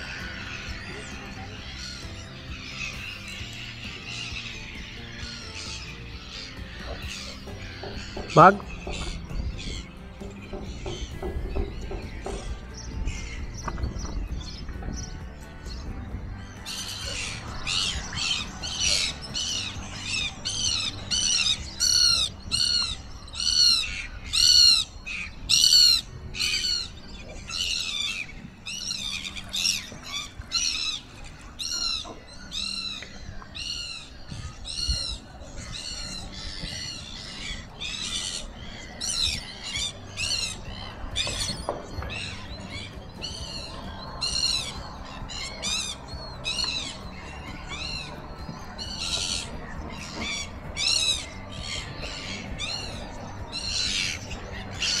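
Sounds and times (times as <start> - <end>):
gulls calling: 0.0 - 55.0.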